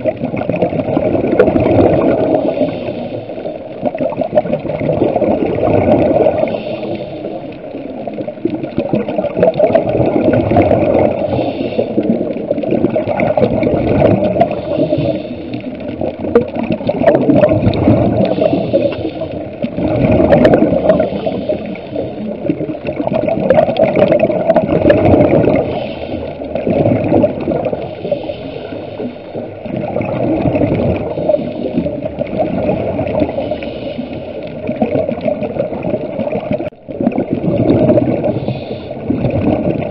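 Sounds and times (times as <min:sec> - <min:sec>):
diver bubbles gurgling: 0:00.0 - 0:39.9.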